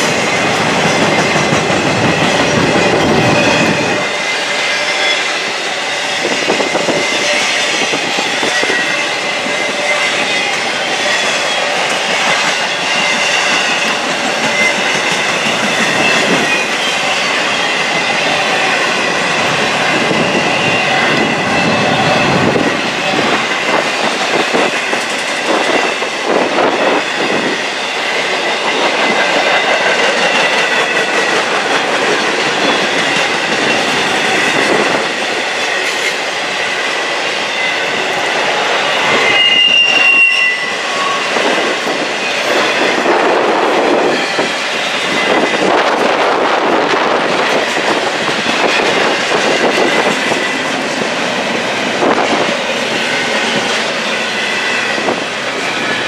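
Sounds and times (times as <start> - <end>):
train wheels clacking on rails: 0.0 - 56.0
train wheels squealing: 0.0 - 56.0.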